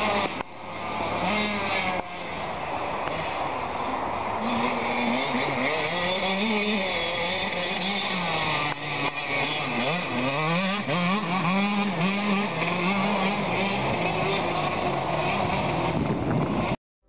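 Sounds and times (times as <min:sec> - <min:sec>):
dirt bike engine revving: 0:00.0 - 0:16.8.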